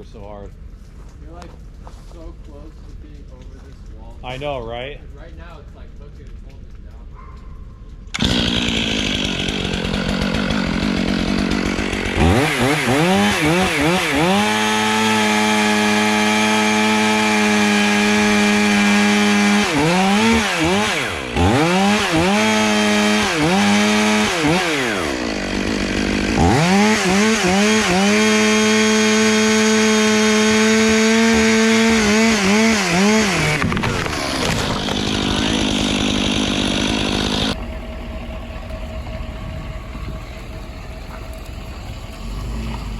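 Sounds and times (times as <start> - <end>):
chainsaw cutting: 8.0 - 42.9.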